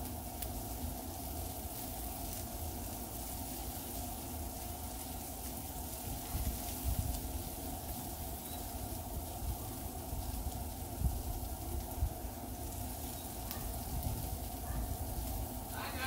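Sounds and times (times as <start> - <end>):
vegetables sizzling on a griddle: 0.0 - 16.0.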